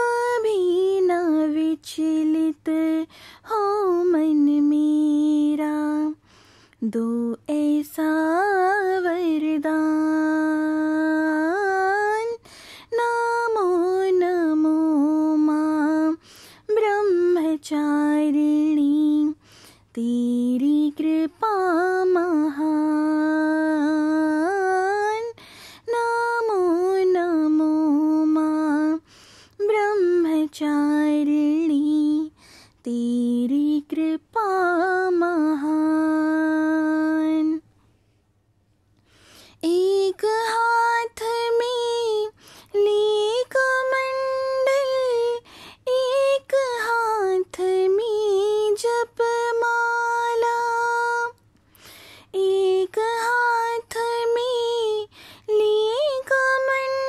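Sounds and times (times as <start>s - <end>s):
woman singing unaccompanied: 0.0s - 37.7s, 39.5s - 57.0s.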